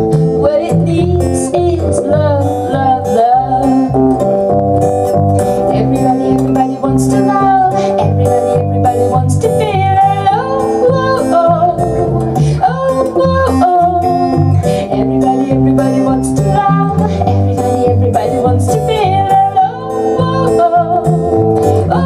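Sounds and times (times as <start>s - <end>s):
woman singing: 0.0s - 4.5s, 5.4s - 22.0s
acoustic guitar: 0.0s - 22.0s
electric bass: 0.0s - 22.0s.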